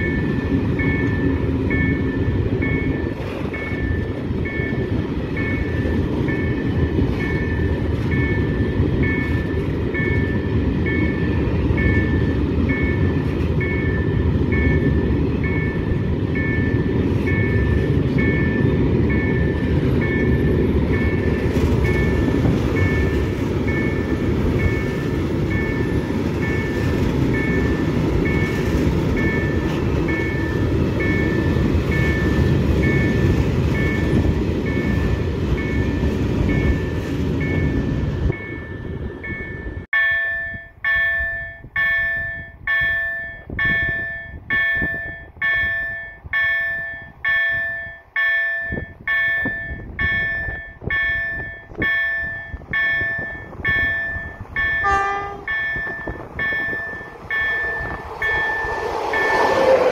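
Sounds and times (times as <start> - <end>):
two-tone crossing signal beeps: 0.0 - 59.8
freight train rumbling on rails: 0.0 - 59.9.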